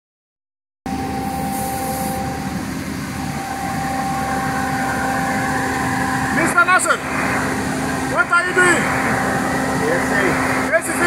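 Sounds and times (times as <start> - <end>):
diesel engine idling: 0.9 - 11.0.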